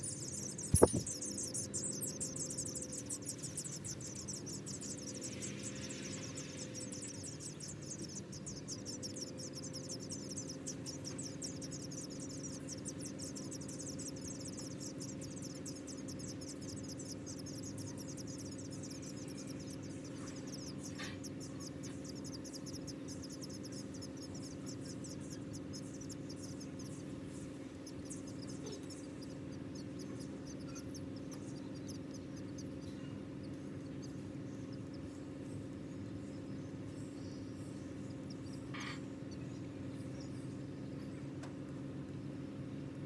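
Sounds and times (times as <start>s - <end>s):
nestling birds begging chirps: 0.0s - 42.9s
steady low hum: 0.0s - 43.0s.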